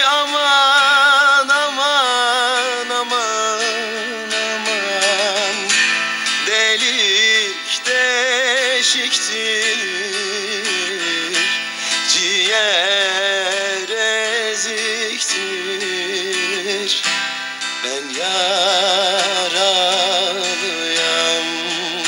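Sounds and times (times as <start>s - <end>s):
plucked strings folk music: 0.0s - 22.0s.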